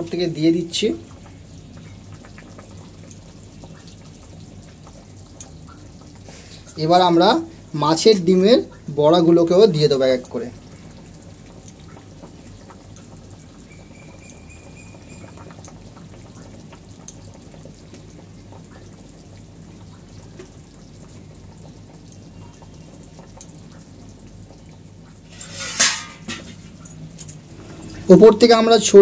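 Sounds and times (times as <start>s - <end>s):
gravy bubbling at a boil: 0.0s - 29.0s.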